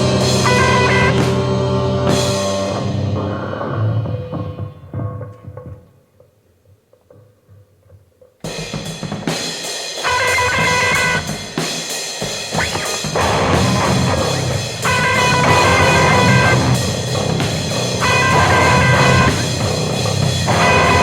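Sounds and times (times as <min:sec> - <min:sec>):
grunge punk band playing: 0:00.0 - 0:05.2, 0:08.5 - 0:21.0.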